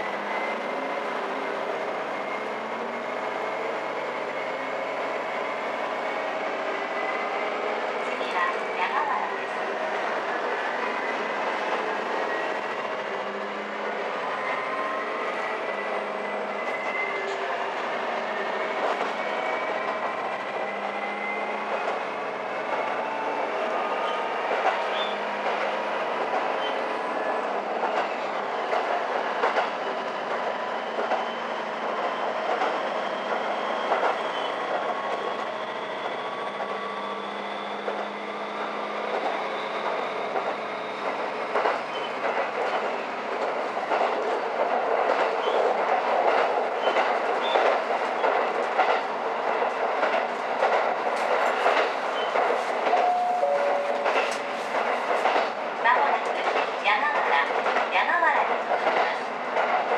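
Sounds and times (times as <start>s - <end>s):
diesel railcar whine: 0.0s - 59.9s.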